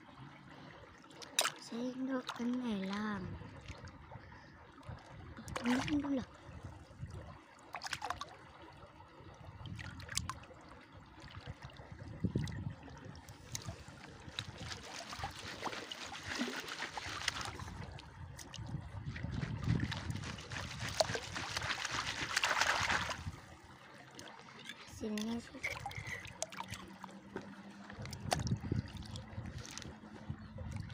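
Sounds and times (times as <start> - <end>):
shallow water sloshing: 0.0 - 30.9.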